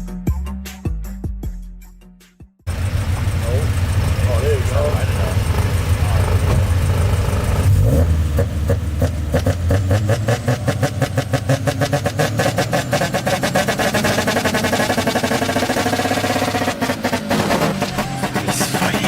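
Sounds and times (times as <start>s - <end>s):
car engine popping: 2.7s - 19.0s.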